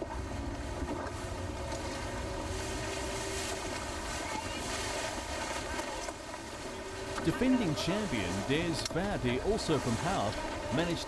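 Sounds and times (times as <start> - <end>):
water rushing past hull: 0.0 - 11.0.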